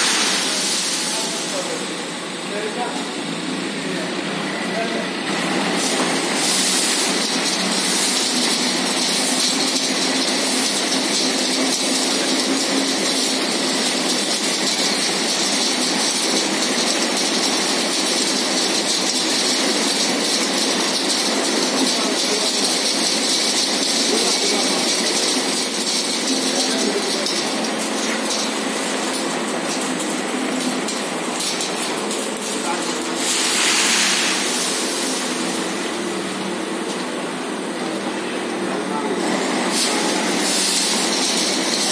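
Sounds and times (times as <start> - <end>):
packing machine hissing: 0.0 - 41.9.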